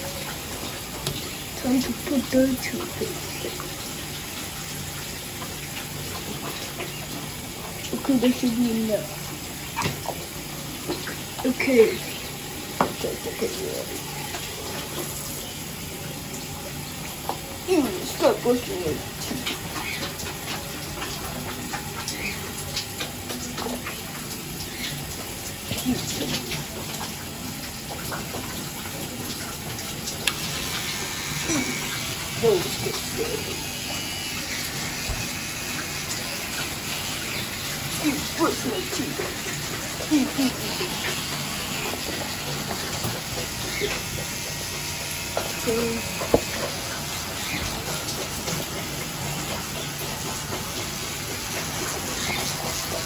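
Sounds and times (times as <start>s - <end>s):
tap water running into sink: 0.0s - 53.0s.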